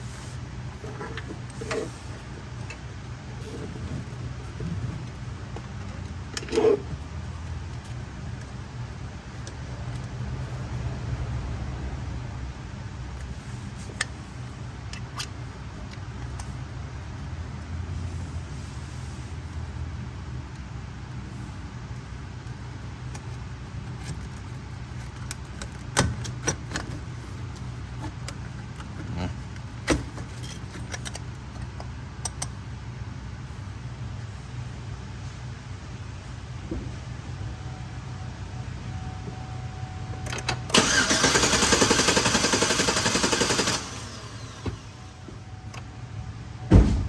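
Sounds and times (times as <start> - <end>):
steady low hum: 0.0 - 40.5.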